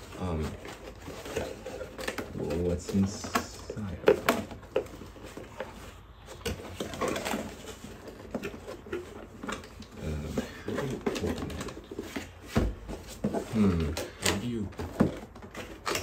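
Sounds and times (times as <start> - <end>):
cardboard box rustling and clicking: 0.0 - 16.0.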